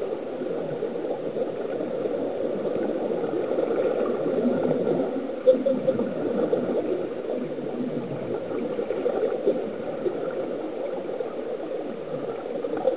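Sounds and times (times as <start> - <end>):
underwater bubbling and gurgling: 0.0 - 12.9.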